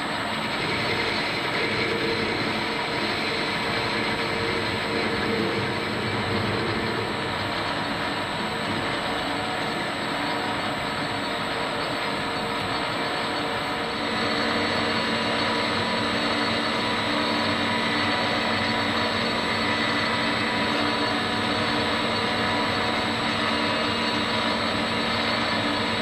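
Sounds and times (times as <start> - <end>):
metal lathe running: 0.0 - 26.0.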